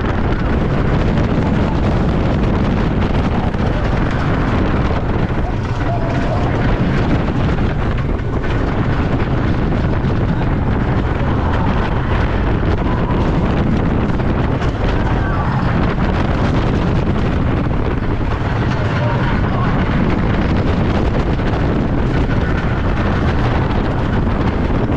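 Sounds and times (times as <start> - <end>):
roller coaster train rumbling: 0.0 - 24.9
wind buffeting microphone: 0.0 - 24.9.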